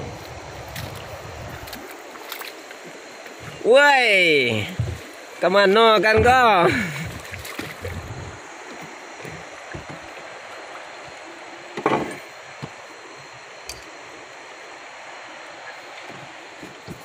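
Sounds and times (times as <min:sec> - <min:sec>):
water rushing around boat: 0:00.0 - 0:17.0.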